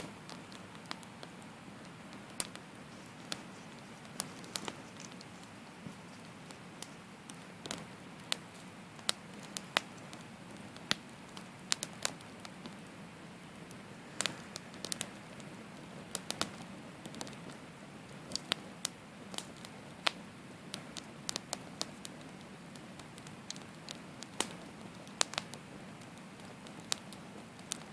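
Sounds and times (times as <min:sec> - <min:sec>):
campfire flame rushing: 0:00.0 - 0:27.9
fire crackling and popping: 0:00.0 - 0:27.9.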